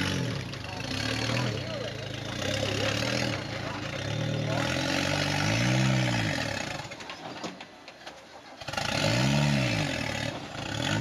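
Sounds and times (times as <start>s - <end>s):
buggy engine revving: 0.0s - 11.0s.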